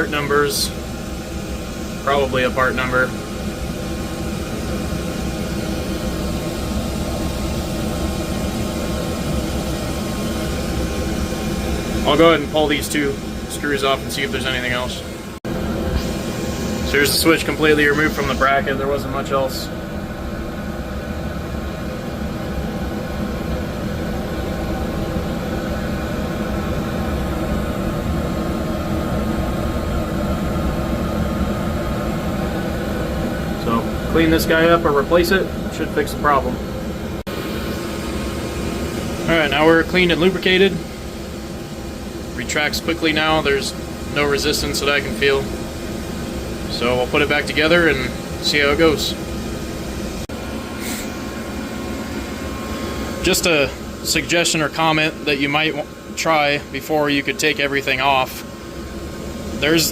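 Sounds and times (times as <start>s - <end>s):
machinery humming: 0.0s - 59.9s.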